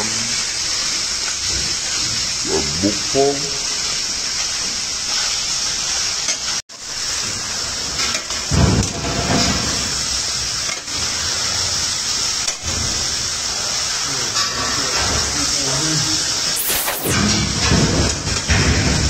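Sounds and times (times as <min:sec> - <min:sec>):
meat sizzling in a pan: 0:00.0 - 0:17.1.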